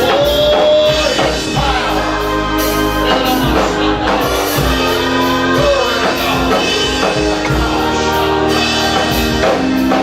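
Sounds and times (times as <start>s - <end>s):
bass guitar: 0.0s - 10.0s
congregation singing: 0.0s - 10.0s
drum kit: 0.0s - 10.0s
keyboard chords: 0.0s - 10.0s.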